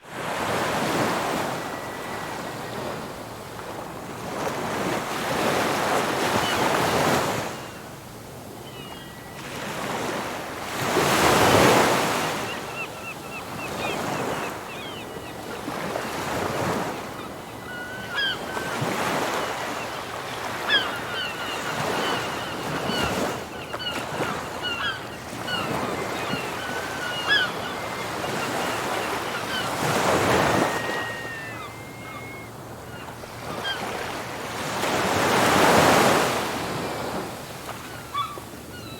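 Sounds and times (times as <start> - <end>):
ocean waves breaking: 0.0 - 8.8, 9.4 - 38.8
gulls calling: 0.5 - 38.9.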